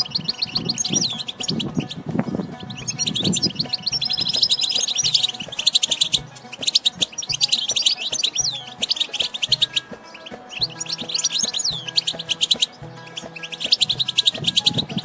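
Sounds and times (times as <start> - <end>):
goldfinch twittering: 0.0 - 15.0.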